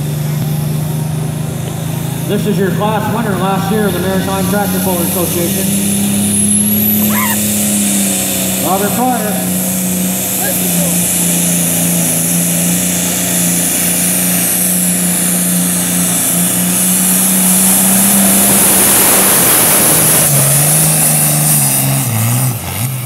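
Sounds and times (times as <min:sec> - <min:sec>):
tractor diesel engine at full power: 0:00.0 - 0:23.0.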